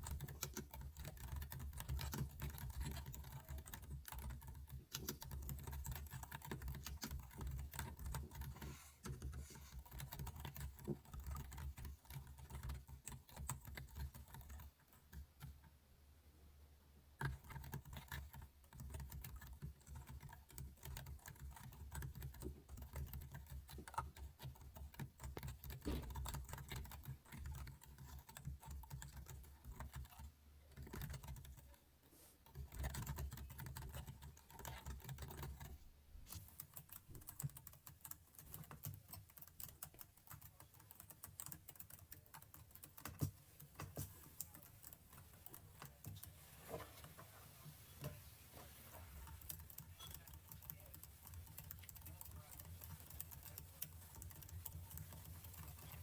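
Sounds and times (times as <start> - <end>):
keyboard typing: 0.0 - 15.6, 17.2 - 31.8, 32.5 - 35.8, 36.4 - 46.4, 48.9 - 56.0.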